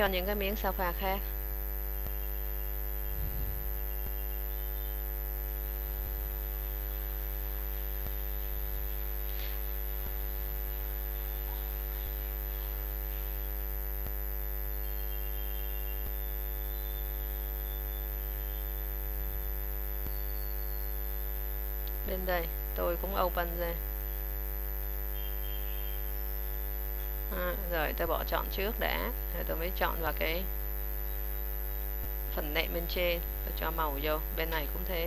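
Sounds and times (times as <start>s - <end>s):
electrical mains hum: 0.0s - 35.0s
faint high whine: 0.0s - 35.0s.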